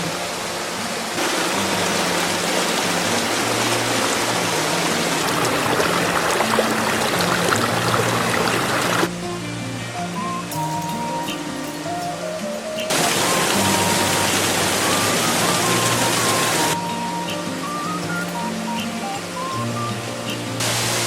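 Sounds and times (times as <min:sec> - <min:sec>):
background music: 0:00.0 - 0:21.0
loud steady rushing noise: 0:00.0 - 0:21.0.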